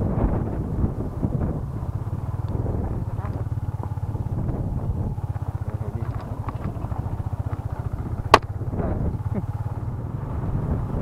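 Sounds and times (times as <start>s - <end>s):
motorcycle engine running low speed: 0.0s - 11.0s.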